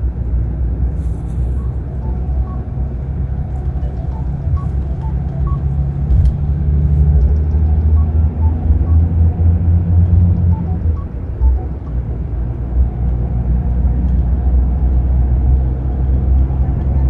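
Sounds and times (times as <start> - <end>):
diesel bus engine rumbling: 0.0 - 17.0.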